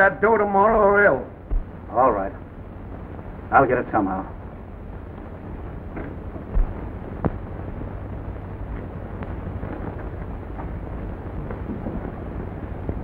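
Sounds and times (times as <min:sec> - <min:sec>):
film soundtrack rumble and crackle: 0:00.0 - 0:13.0.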